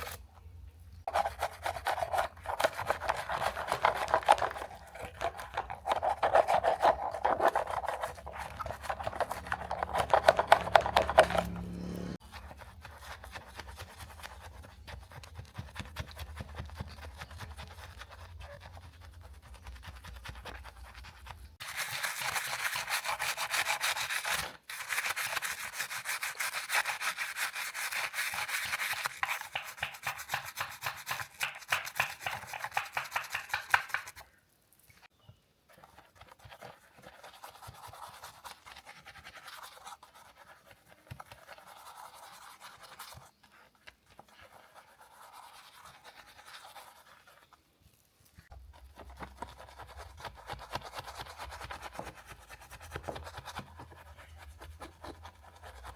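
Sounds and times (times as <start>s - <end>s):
scrubbing strokes on model car: 1.1s - 31.3s, 35.7s - 55.9s.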